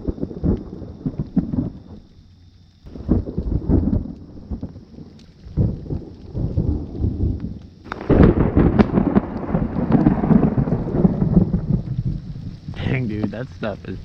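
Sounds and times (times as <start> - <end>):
thunder rumbling: 0.0 - 2.2, 2.8 - 14.0
rain falling: 0.0 - 14.0.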